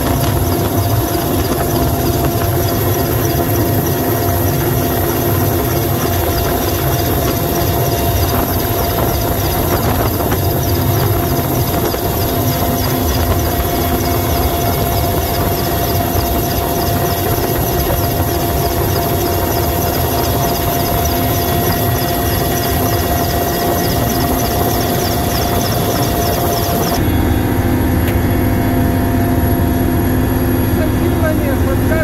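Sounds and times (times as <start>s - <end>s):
deep engine drone: 0.0s - 32.0s
helicopter turbine whine and rotor: 0.0s - 32.0s.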